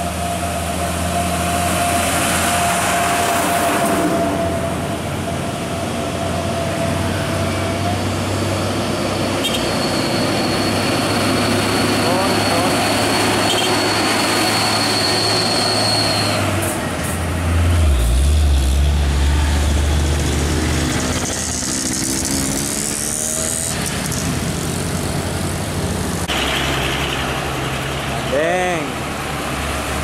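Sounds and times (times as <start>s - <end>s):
motorcycle and car engines: 0.0s - 30.0s.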